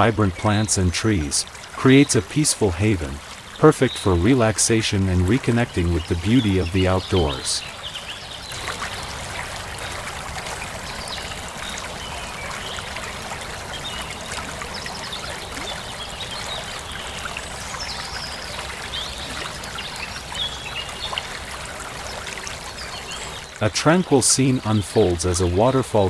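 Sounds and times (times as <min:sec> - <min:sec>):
stream water flowing: 0:00.0 - 0:26.0.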